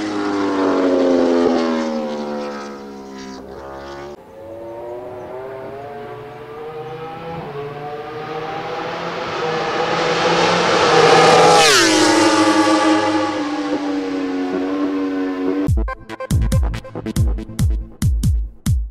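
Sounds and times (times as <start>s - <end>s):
racing motorcycle accelerating past: 0.0s - 15.7s.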